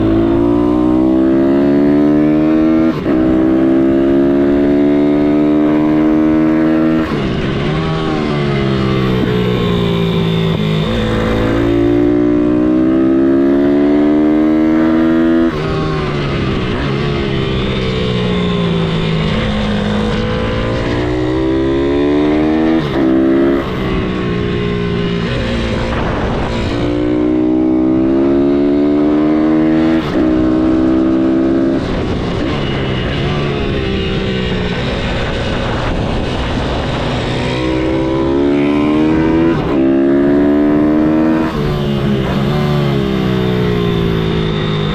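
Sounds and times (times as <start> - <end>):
motorcycle engine accelerating through gears: 0.0 - 44.9.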